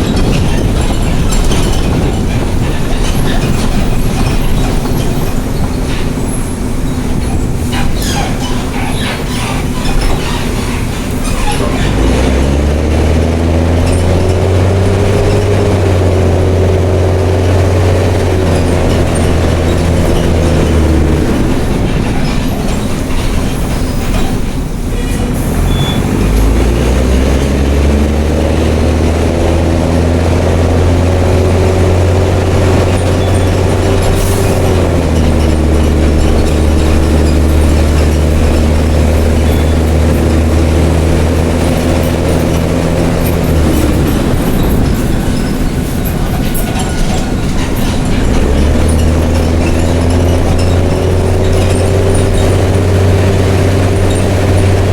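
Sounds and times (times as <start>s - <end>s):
diesel bus engine revving: 0.0s - 54.9s.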